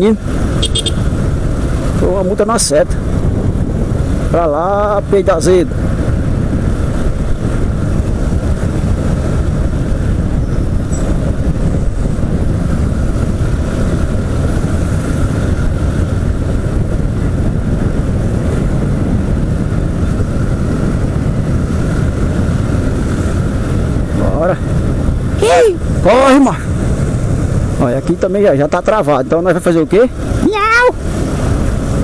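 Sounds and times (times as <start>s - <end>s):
motorcycle riding in traffic: 0.0s - 32.0s.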